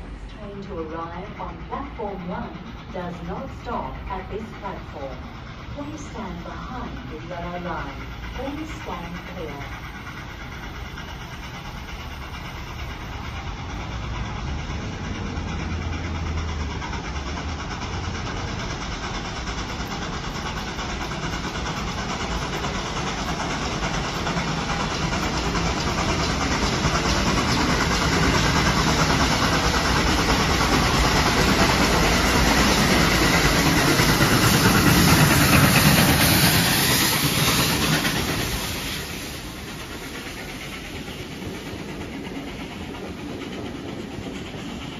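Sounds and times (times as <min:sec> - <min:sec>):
steam locomotive passing: 0:00.0 - 0:44.9
wheels on rail: 0:00.0 - 0:44.9.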